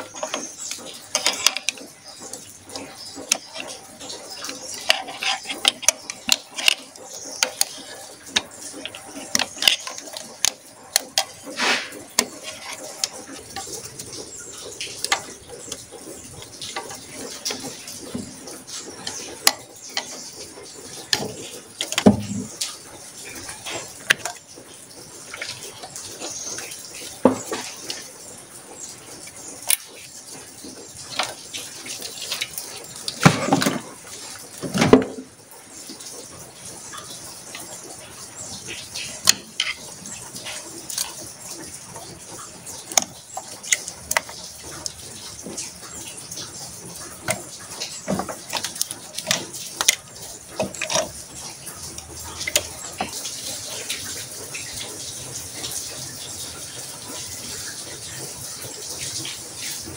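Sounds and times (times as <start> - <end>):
hand tools clicking and tapping: 0.0 - 24.6, 29.1 - 54.3.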